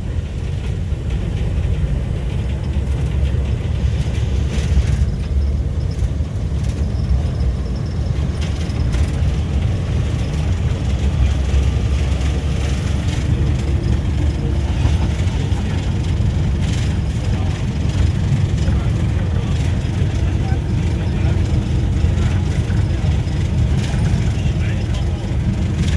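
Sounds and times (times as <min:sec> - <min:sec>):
locomotive diesel engine rumble: 0:00.0 - 0:25.9.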